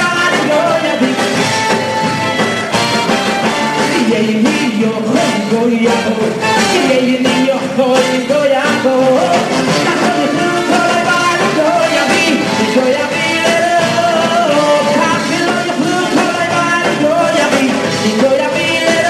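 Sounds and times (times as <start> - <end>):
person singing: 0.0 - 2.5, 3.3 - 19.0
live band music: 0.0 - 19.0.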